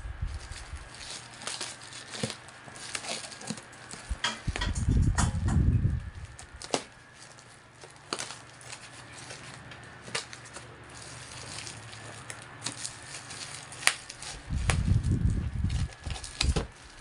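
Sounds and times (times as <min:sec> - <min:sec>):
plastic crinkling: 0:00.0 - 0:05.2, 0:05.8 - 0:17.0
scissors snipping plastic: 0:00.5 - 0:05.6, 0:06.2 - 0:15.0, 0:15.7 - 0:17.0.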